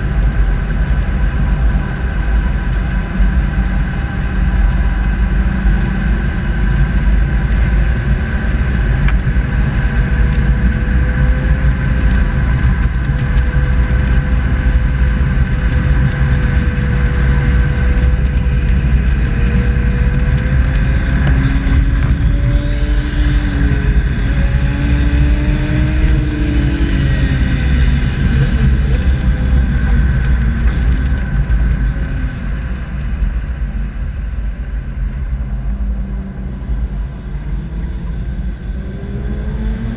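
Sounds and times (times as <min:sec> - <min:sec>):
vehicle driving with whine: 0:00.0 - 0:39.9.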